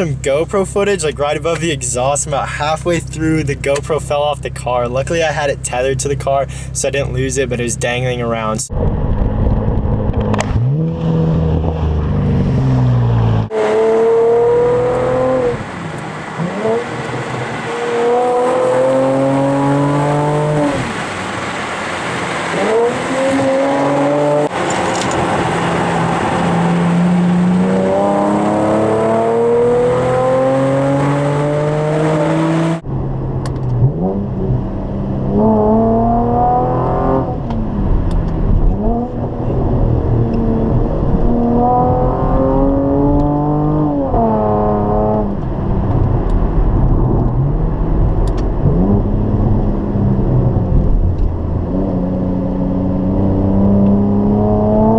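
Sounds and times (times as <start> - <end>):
car exhaust accelerating hard: 0.0 - 54.9.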